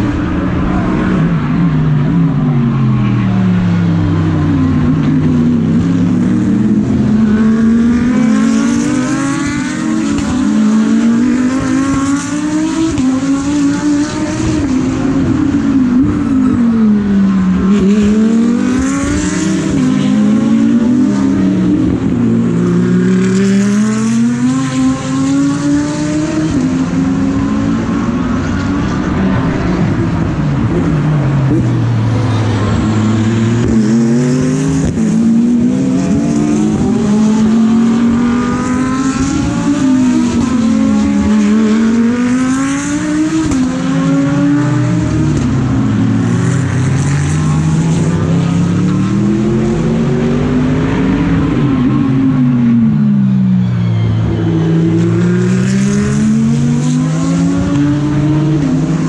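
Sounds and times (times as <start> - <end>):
race cars cornering: 0.0 - 59.0.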